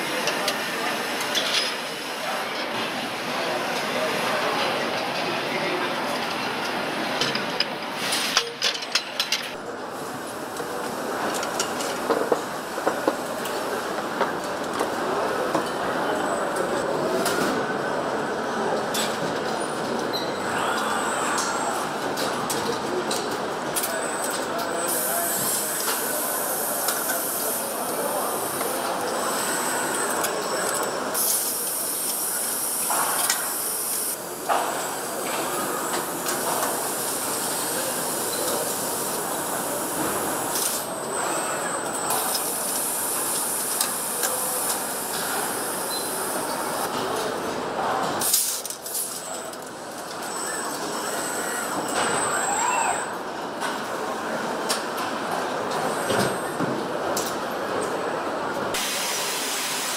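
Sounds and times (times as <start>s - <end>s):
factory hum: 0.0s - 59.9s.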